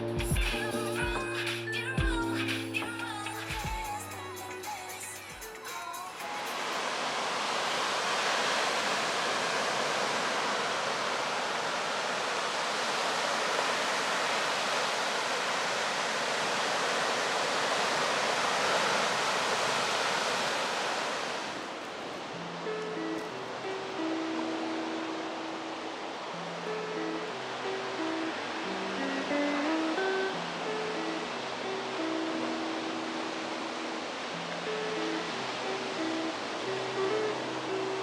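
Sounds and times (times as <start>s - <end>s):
sea surf rushing: 0.0s - 38.0s.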